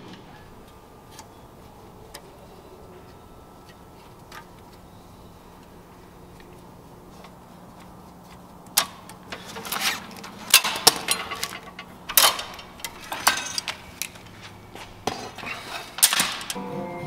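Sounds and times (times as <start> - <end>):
wiring snapping: 0.0 - 14.4, 15.0 - 16.6
wires clicking and clattering on metal: 0.0 - 16.6.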